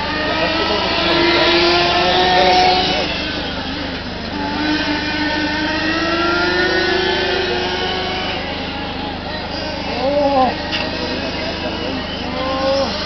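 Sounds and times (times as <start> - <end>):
model car engines whining: 0.0 - 13.0.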